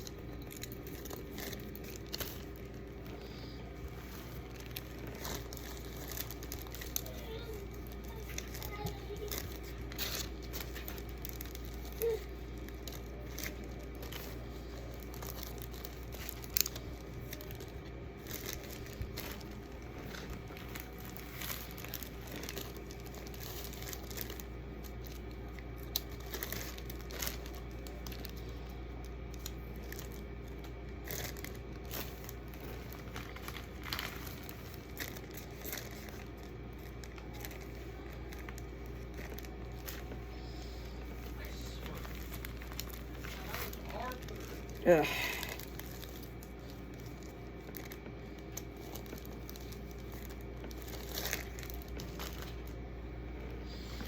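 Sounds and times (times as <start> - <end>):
plastic bags crinkling: 0.0 - 54.0.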